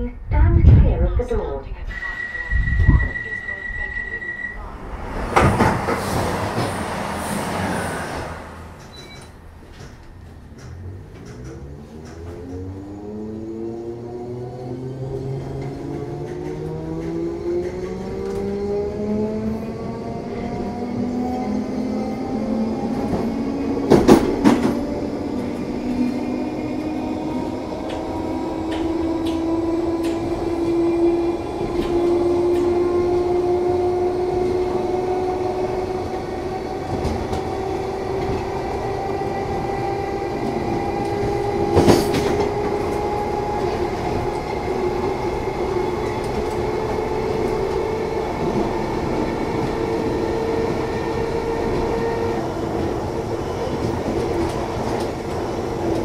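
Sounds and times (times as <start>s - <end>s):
train running with rising whine: 1.7s - 56.0s.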